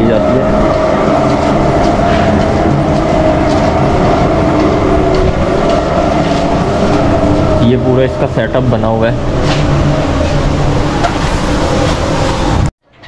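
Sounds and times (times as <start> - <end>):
chair lift machinery drone: 0.0 - 12.7.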